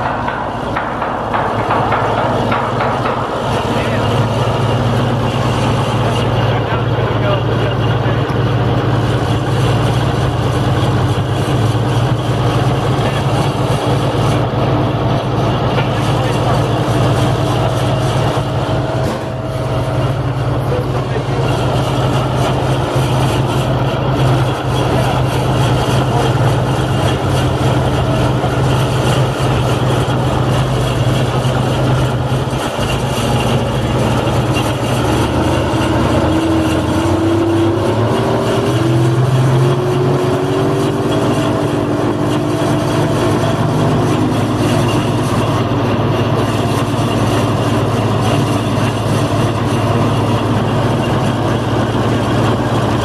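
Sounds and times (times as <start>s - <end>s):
crane engine running: 0.0s - 53.0s
wavering machinery whine: 0.0s - 53.0s.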